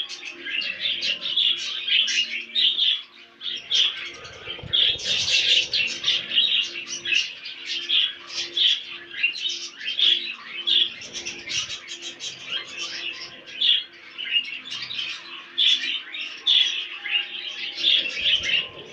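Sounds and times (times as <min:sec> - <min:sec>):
budgerigars chirping: 0:00.0 - 0:18.9.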